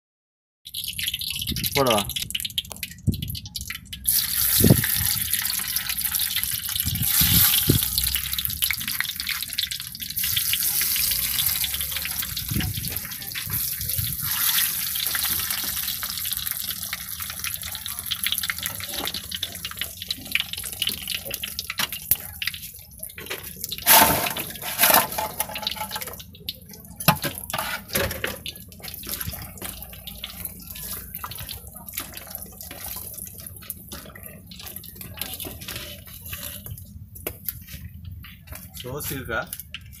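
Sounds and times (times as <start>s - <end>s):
crabs sizzling in hot oil: 0.7s - 39.6s
oil popping: 0.7s - 40.0s.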